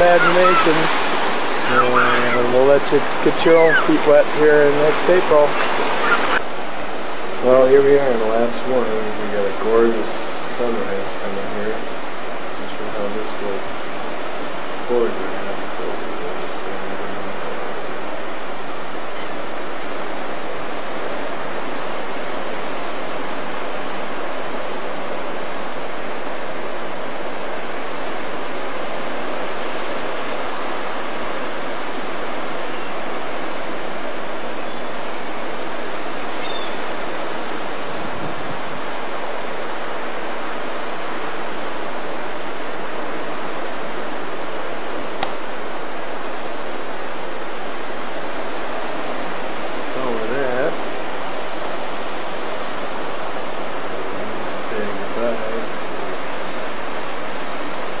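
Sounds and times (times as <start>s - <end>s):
ocean surf roaring: 0.0s - 58.0s.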